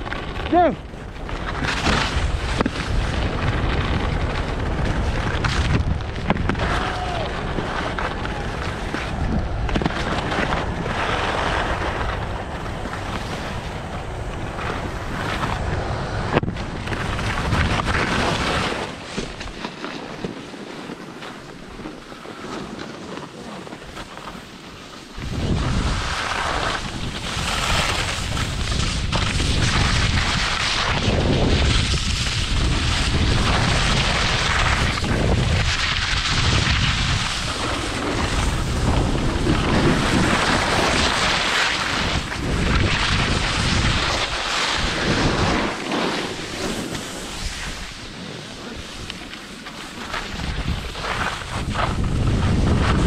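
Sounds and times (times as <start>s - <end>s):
wind buffeting microphone: 0.0s - 19.6s, 25.1s - 49.3s, 50.1s - 53.0s
skis sliding on snow: 0.0s - 53.0s.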